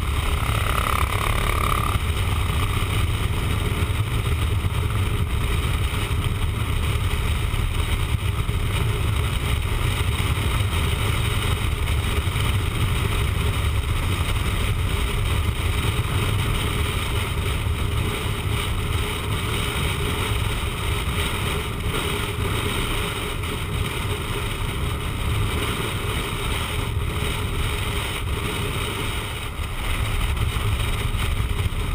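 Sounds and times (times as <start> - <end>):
motorcycle engine: 0.0 - 31.9.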